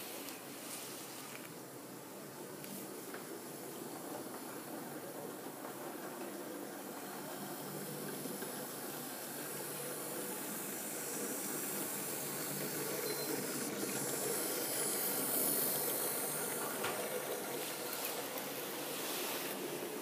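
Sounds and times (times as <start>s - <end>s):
wheels hissing on rails: 0.0s - 20.0s
model train motor hum: 3.3s - 20.0s.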